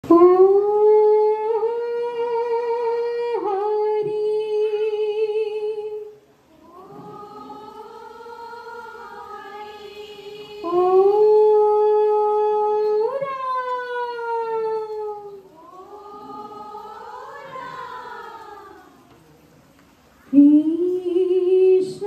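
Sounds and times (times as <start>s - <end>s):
women chanting in unison: 0.1s - 19.3s, 20.3s - 22.0s.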